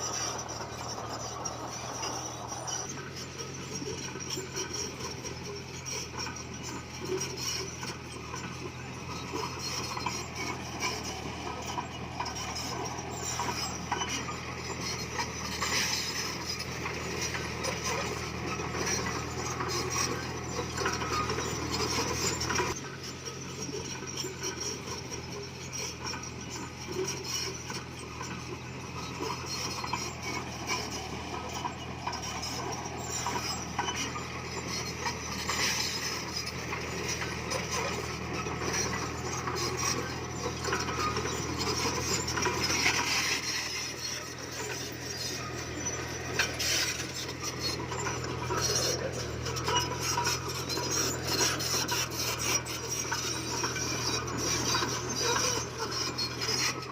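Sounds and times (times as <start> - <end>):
bulldozer diesel engine running: 0.0 - 56.9
clatter of tracks and stone: 0.0 - 56.9.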